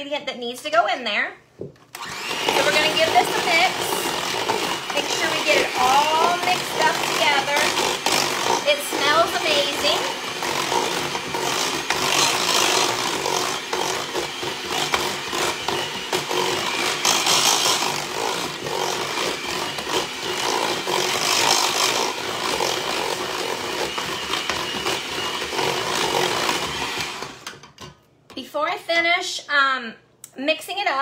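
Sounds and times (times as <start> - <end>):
electric mixer running in steel bowl: 2.0 - 27.6.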